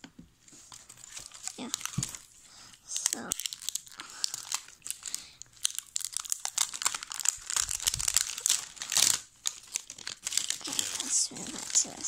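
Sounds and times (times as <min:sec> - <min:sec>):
plastic film crinkling: 0:00.5 - 0:12.0.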